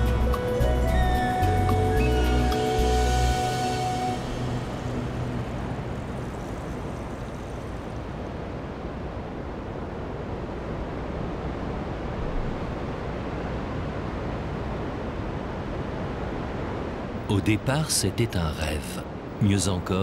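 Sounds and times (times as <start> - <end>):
ocean surf: 0.0 - 20.0
wind: 0.0 - 20.0.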